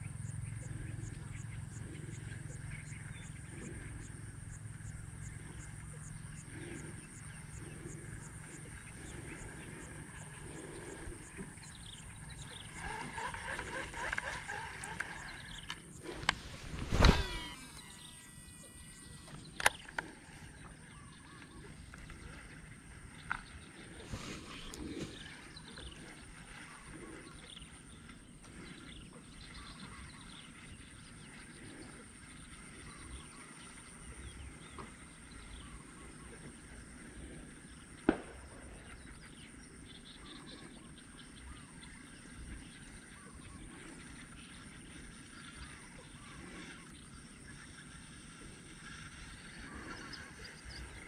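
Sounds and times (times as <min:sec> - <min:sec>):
birds calling faintly: 0:00.0 - 0:51.0.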